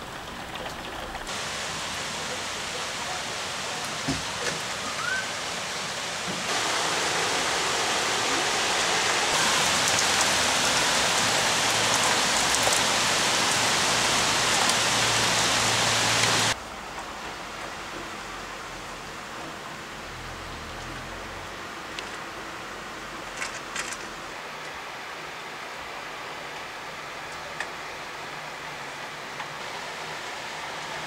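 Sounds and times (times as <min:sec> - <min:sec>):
heavy rain on foliage: 0:00.0 - 0:31.0.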